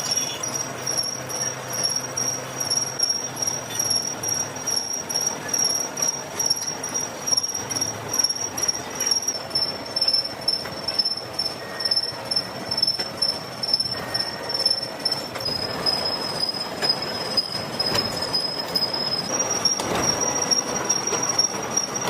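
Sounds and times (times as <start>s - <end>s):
high whine: 0.0s - 22.0s
machine tool cutting metal: 0.0s - 22.0s.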